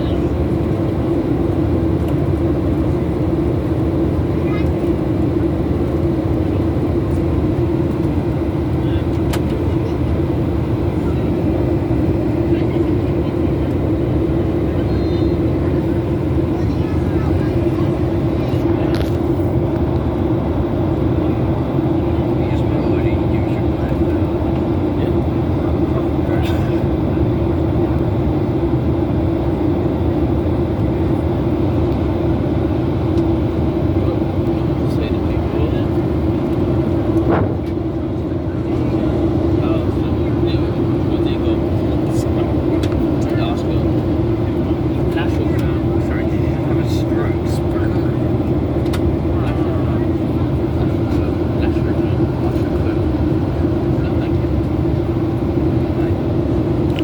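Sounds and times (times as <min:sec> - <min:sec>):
airliner engines droning: 0:00.0 - 0:57.0
constant hum: 0:00.0 - 0:57.0.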